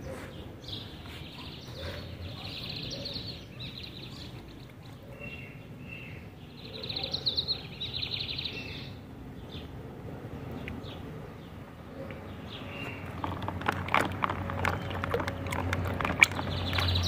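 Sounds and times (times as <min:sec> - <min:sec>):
small birds trilling: 0:00.0 - 0:09.8, 0:10.4 - 0:17.0.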